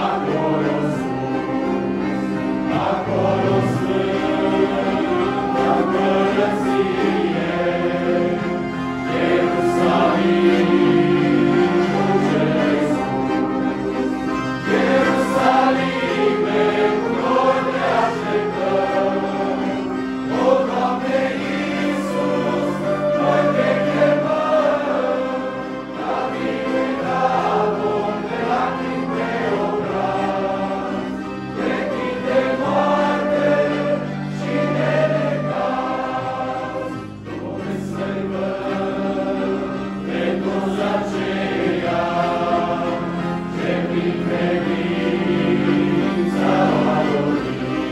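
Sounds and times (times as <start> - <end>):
male choir singing a hymn: 0.0 - 47.9.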